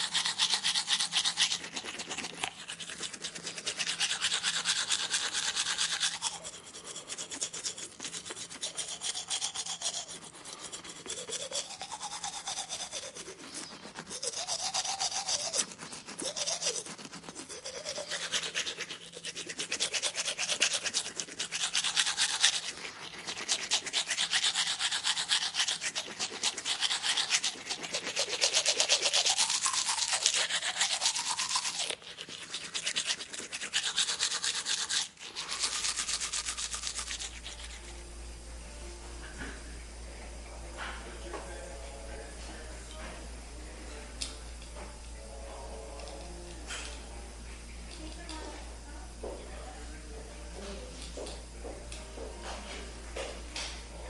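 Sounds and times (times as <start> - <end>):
dental tool scraping teeth: 0.0 - 38.5, 44.2 - 48.5, 50.9 - 53.9.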